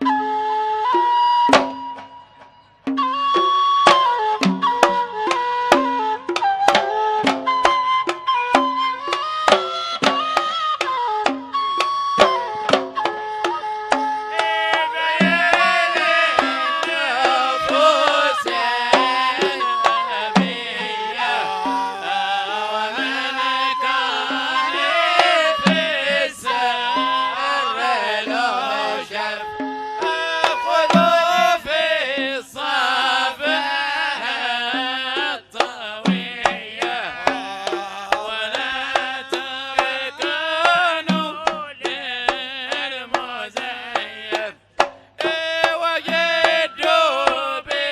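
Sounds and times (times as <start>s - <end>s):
wavering melody: 0.0s - 42.9s, 45.2s - 47.9s
hand drum percussion: 0.0s - 47.9s.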